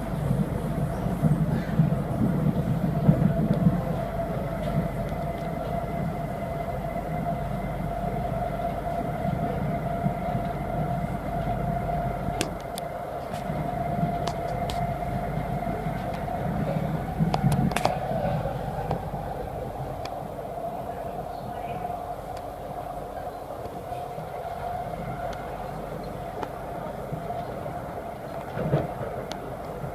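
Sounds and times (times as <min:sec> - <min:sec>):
train wheels rumbling: 0:00.0 - 0:29.9.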